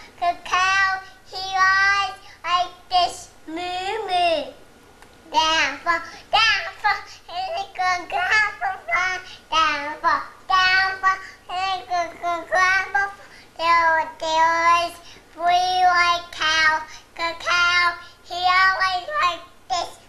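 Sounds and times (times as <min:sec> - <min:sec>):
toddler singing: 0:00.0 - 0:03.3, 0:05.3 - 0:20.0.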